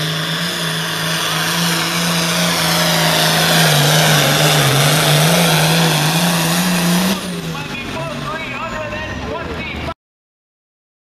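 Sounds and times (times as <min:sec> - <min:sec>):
tractor diesel engine under load: 0:00.0 - 0:10.0.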